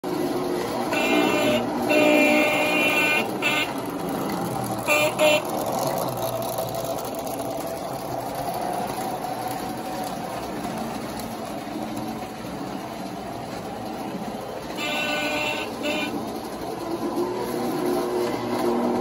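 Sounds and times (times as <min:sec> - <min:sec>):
model train motors humming: 0:00.0 - 0:19.0
train wheels clicking on track: 0:00.0 - 0:19.0.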